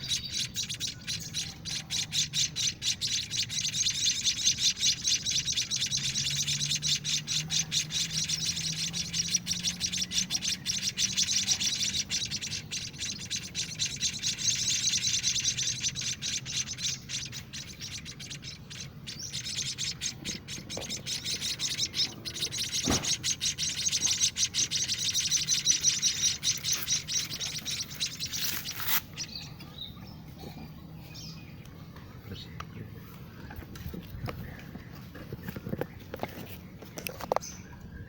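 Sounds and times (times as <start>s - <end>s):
nestlings begging chirps: 0.0s - 38.0s.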